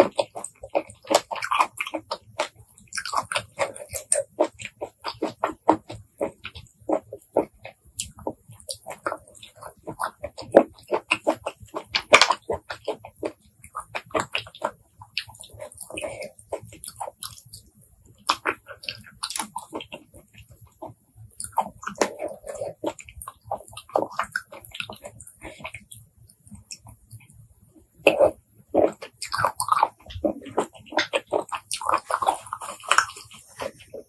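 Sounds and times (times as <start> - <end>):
mouth clicks and smacks: 0.0 - 34.0
wet chewing of shellfish: 0.0 - 34.0.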